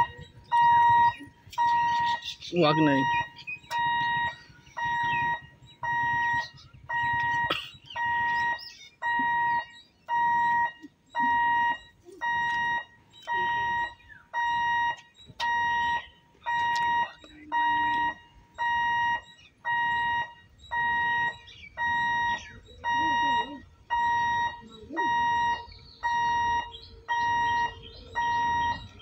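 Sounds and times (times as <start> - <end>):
level crossing alarm beeping: 0.0 - 29.0.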